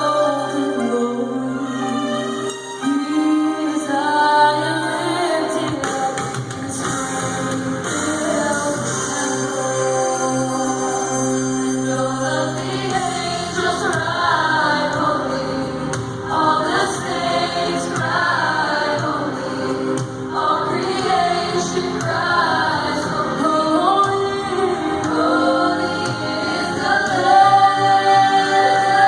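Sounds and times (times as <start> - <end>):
choir singing gospel: 0.0 - 29.0.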